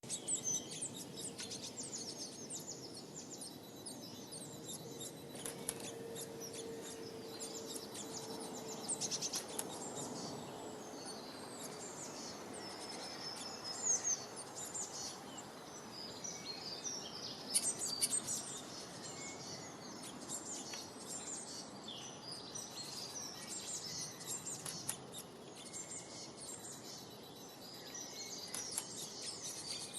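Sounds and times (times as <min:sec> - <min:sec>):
small birds chirping: 0:00.0 - 0:29.9
steady background hiss: 0:00.0 - 0:29.9.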